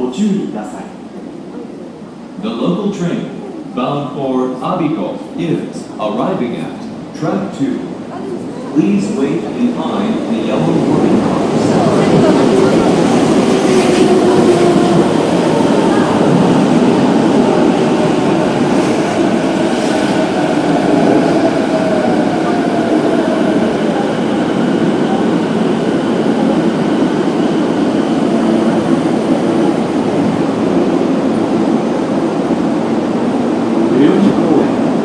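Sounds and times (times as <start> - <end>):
subway motor whine: 0.0 - 35.0
train cars rumbling: 3.2 - 35.0.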